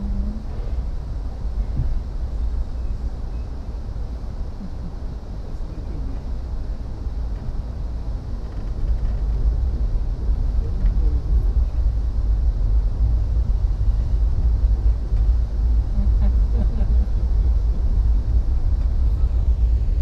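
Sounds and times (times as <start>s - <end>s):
train rumble from inside: 0.0s - 20.0s.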